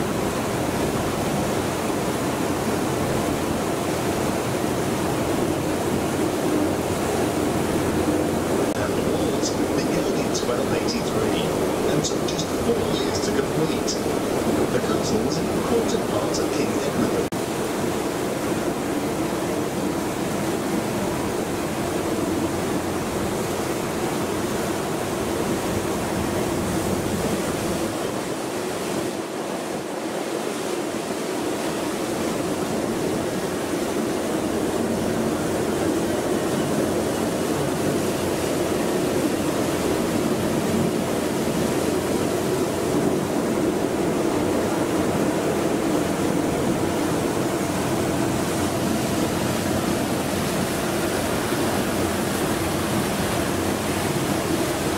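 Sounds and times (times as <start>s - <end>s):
boat engine humming: 0.0s - 54.9s
water rushing past hull: 0.0s - 54.9s.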